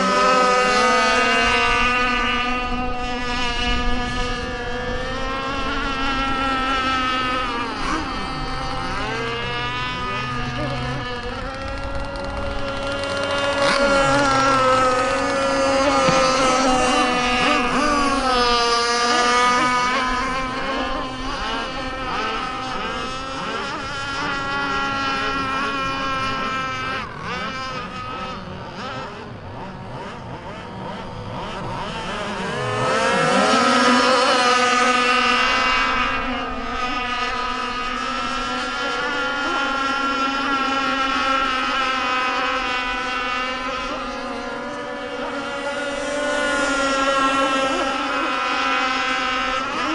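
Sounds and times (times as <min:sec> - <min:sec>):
rc boat motor running: 0:00.0 - 0:49.9.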